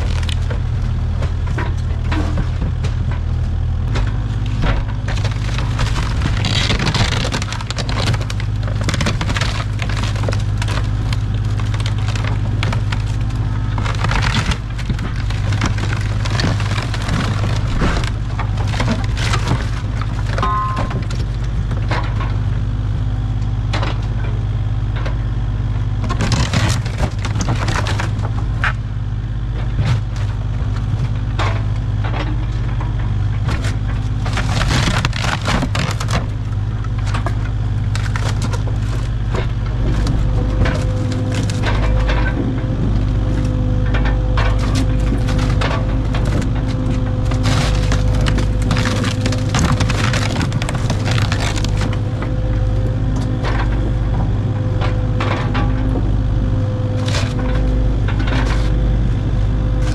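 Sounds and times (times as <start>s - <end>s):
wood cracking and splintering: 0.0s - 22.5s, 25.9s - 28.9s, 29.6s - 53.9s, 56.6s - 58.8s, 59.7s - 59.9s
excavator diesel engine running: 0.0s - 59.9s.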